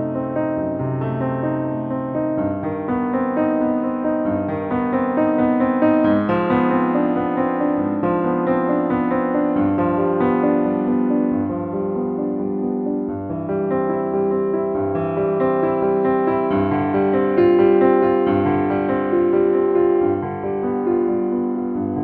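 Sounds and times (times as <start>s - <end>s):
soft piano music: 0.0s - 22.0s.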